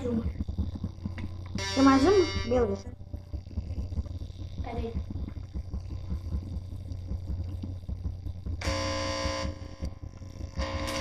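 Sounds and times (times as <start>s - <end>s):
guitar amplifier mains hum: 0.0s - 11.0s.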